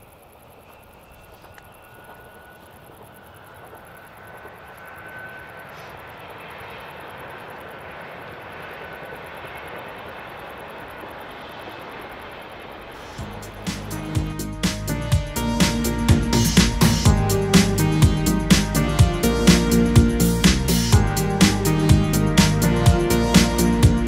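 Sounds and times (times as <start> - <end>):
electric train passing: 0.0 - 24.0
faint high whine: 0.0 - 24.0.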